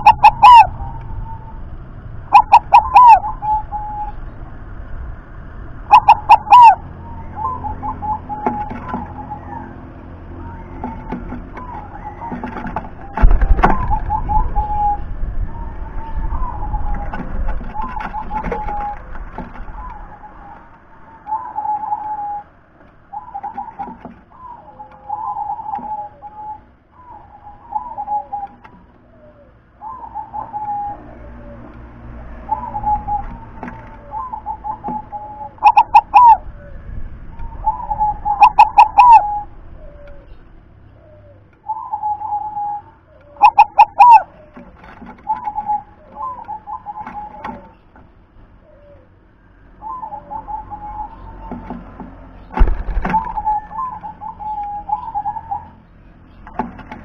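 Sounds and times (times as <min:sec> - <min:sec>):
dove cooing: 0:00.0 - 0:04.4, 0:05.8 - 0:57.0.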